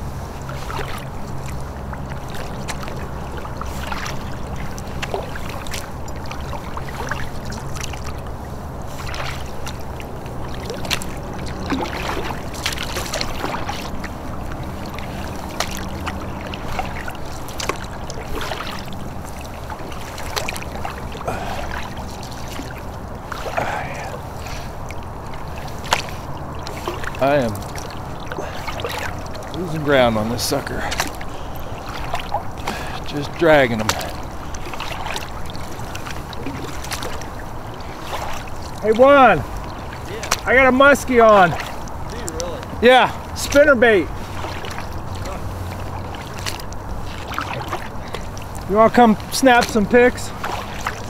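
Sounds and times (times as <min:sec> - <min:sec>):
low steady hum: 0:00.0 - 0:51.0
water lapping against kayak hull: 0:00.0 - 0:51.0.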